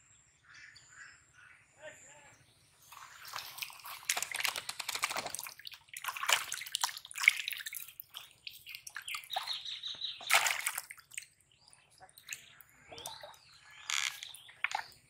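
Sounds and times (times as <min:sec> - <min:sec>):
fish splashing in water tub: 0:02.9 - 0:15.0.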